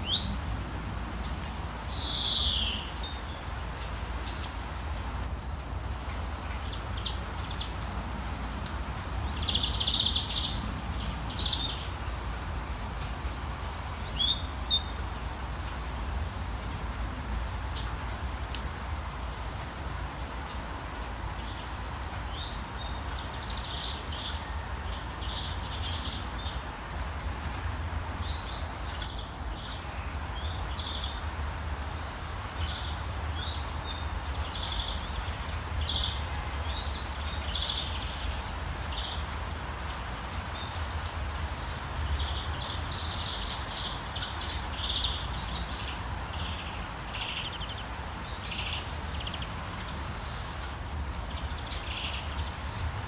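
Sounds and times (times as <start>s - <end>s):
small birds chirping: 0.0s - 18.2s, 27.9s - 53.0s
rain hiss: 0.0s - 53.0s.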